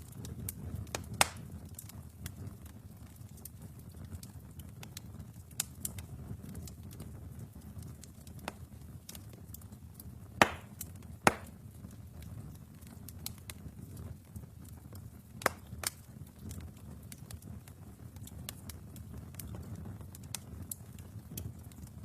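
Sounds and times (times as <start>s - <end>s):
burning logs popping: 0.0s - 22.0s
fireplace fire rumbling and crackling: 0.0s - 22.0s.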